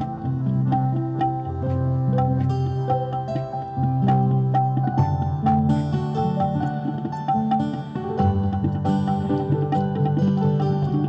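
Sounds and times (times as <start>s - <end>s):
plucked string melody: 0.0s - 11.0s
tabla: 0.0s - 11.0s.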